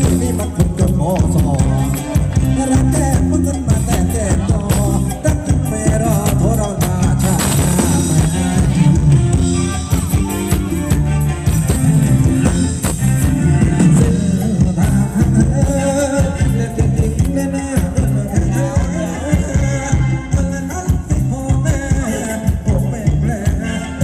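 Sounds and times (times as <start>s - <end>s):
person singing: 0.0s - 11.0s, 13.5s - 24.0s
steady drum beat: 0.0s - 23.6s
bass line: 0.0s - 24.0s
live band dance music: 0.0s - 24.0s.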